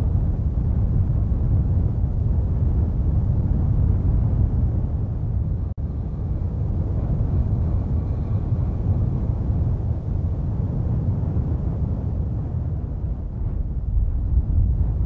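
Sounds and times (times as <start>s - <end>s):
deep rumbling noise: 0.0s - 15.0s.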